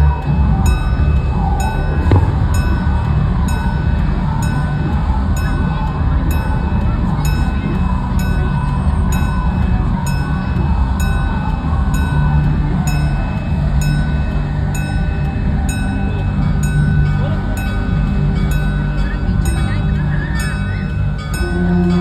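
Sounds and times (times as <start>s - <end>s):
engine and wheels rumble: 0.0s - 22.0s
locomotive bell ringing: 0.0s - 22.0s.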